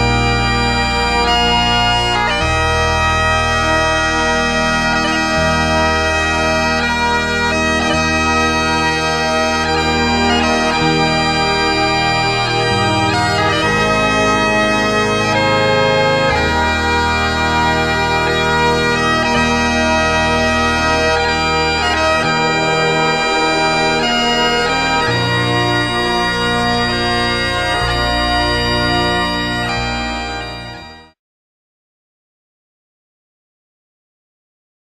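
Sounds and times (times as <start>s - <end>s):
bagpipe melody over drone: 0.0s - 31.2s.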